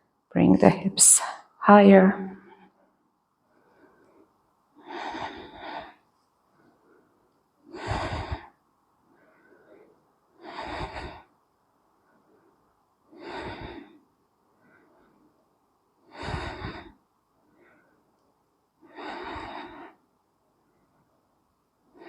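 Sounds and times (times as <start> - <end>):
woman breathing: 3.4 - 18.2, 18.8 - 22.0.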